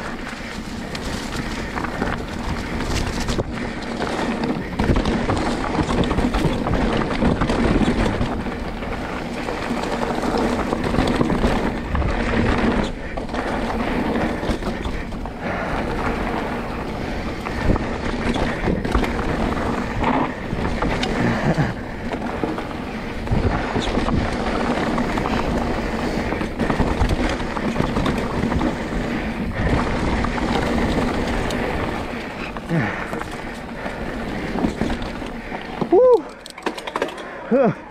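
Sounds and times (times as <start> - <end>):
wind buffeting microphone: 0.0 - 36.3
bike rattling over bumps: 0.0 - 37.9
bike tyres rolling on dirt: 0.0 - 37.9.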